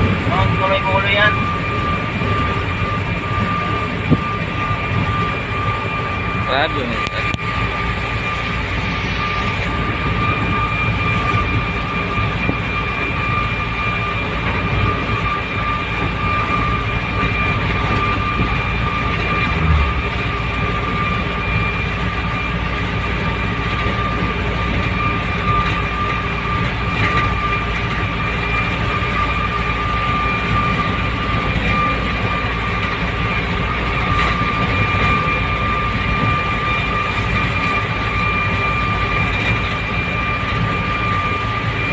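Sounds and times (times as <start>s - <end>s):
high-pitched whine: 0.0s - 41.9s
truck engine and road rumble: 0.0s - 41.9s.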